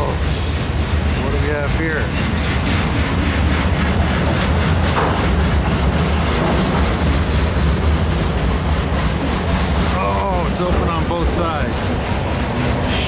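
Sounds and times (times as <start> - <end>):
freight train rumbling past: 0.0 - 13.0
wheels clattering over rail joints: 0.0 - 13.0.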